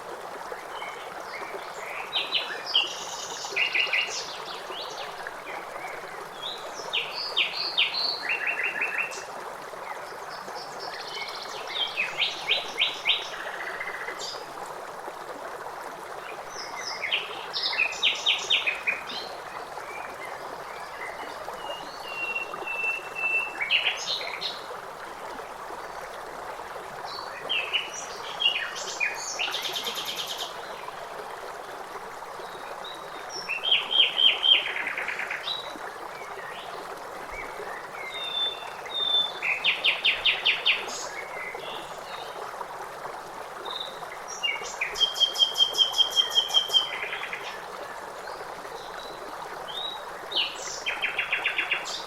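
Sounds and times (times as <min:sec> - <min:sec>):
running water rushing: 0:00.0 - 0:52.0.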